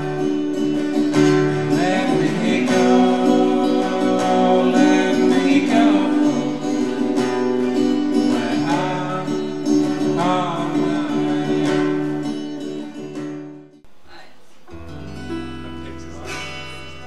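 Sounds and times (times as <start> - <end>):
band with strummed acoustic guitar: 0.0 - 17.0.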